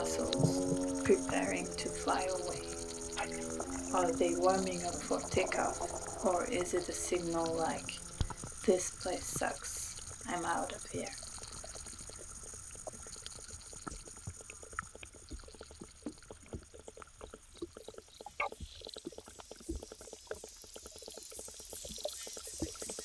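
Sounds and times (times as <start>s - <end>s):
underwater insect clicks: 0.0s - 23.0s.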